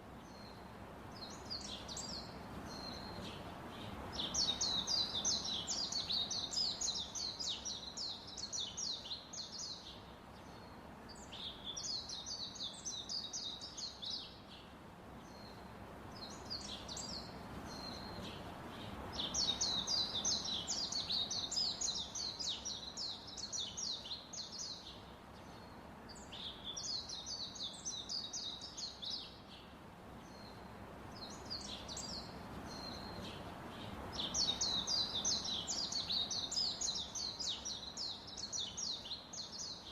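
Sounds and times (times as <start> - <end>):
small birds chirping: 0.0 - 39.9
steady background noise: 0.0 - 39.9.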